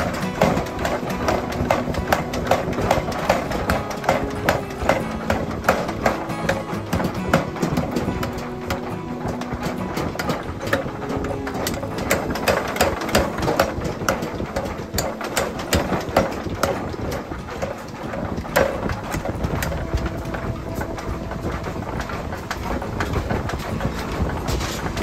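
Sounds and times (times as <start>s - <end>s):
machinery humming: 0.0s - 25.0s
power hammer pounding hot steel: 0.0s - 25.0s.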